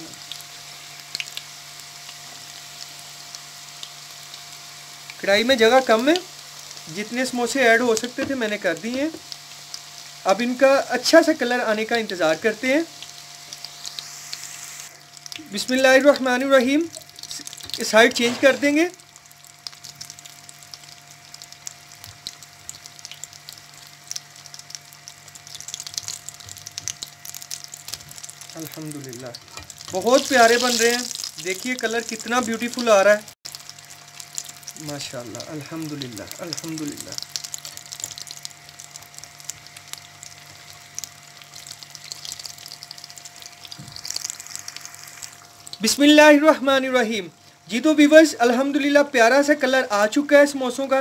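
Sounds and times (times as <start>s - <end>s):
food deep-frying in oil: 0.0s - 51.0s.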